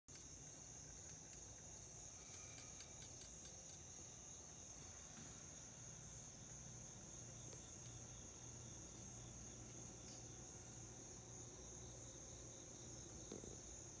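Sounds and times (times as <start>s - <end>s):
crickets trilling: 0.1s - 14.0s.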